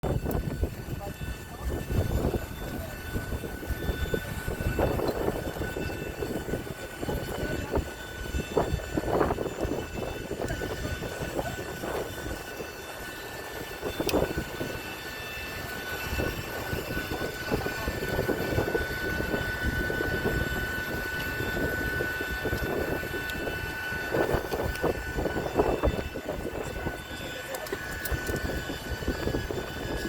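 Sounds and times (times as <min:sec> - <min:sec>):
high-pitched jet whine: 0:00.0 - 0:30.0.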